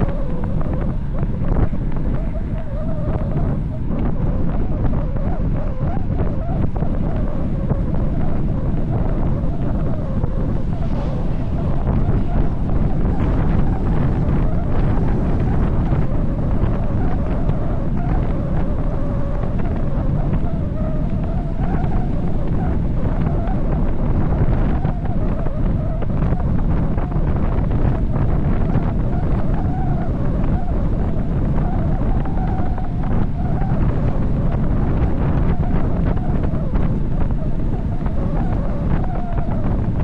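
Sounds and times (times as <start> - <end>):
faint wavering hum: 0.0 - 40.0
wind buffeting microphone: 0.0 - 40.0.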